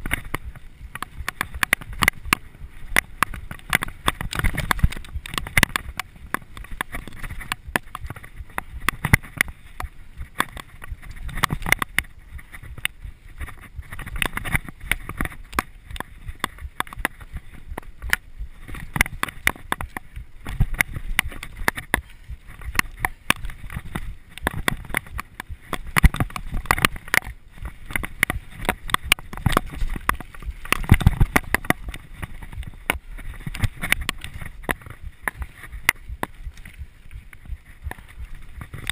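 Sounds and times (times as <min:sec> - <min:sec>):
bike rattling over roots: 0:00.0 - 0:38.9
wind buffeting microphone: 0:00.0 - 0:38.9.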